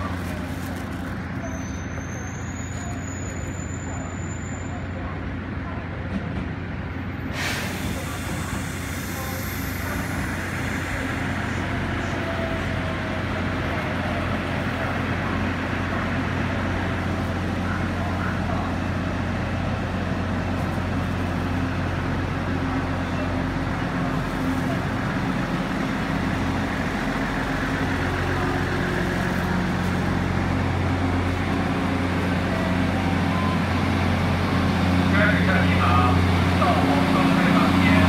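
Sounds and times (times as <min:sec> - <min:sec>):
train diesel engines droning: 0:00.0 - 0:38.0.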